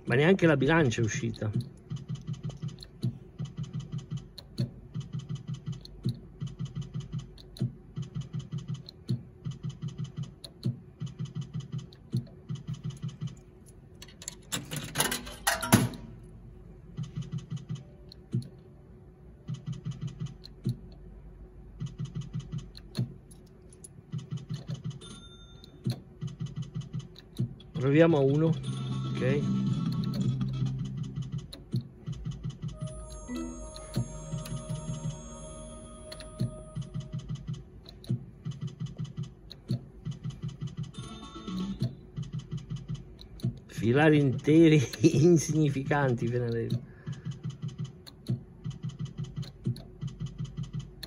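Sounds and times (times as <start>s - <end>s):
slot machine reels ticking: 0.0s - 16.2s, 21.8s - 51.0s.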